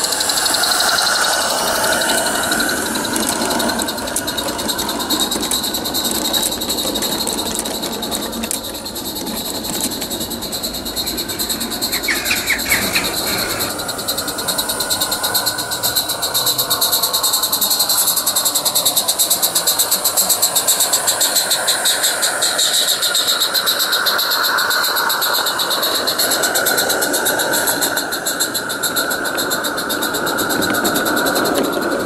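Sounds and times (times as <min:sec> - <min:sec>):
steam locomotive chuffing: 0:00.0 - 0:32.0.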